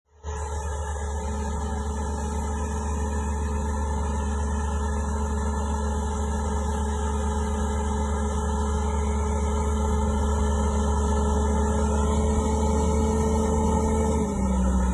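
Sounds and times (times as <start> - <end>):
tractor diesel engine running: 0.1 - 14.9.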